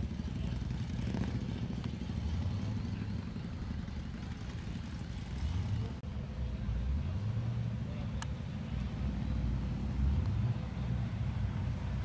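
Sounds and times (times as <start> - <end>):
car engines rumbling past: 0.0 - 12.0.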